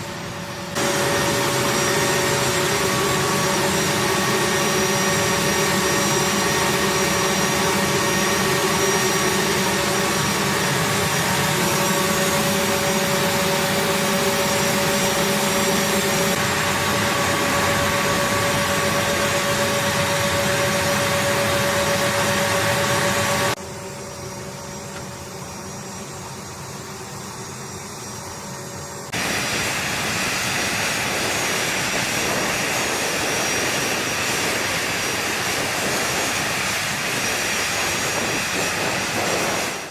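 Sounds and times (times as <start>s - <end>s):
jet engines whining and roaring: 0.0s - 39.9s.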